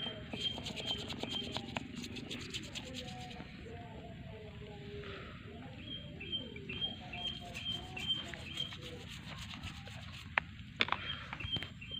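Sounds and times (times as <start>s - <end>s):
faint rubbing and scraping: 0.0s - 5.7s, 7.0s - 11.5s.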